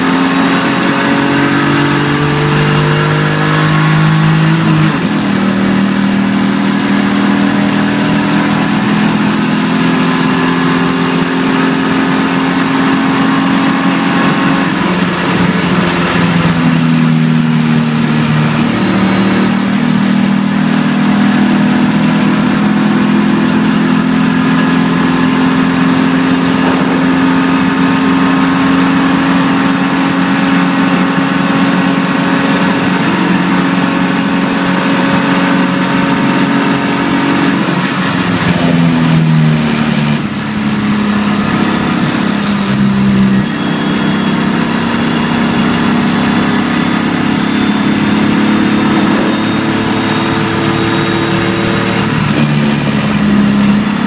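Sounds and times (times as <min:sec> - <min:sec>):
car engine driven hard: 0:00.0 - 0:54.0
road and wind noise: 0:00.0 - 0:54.0.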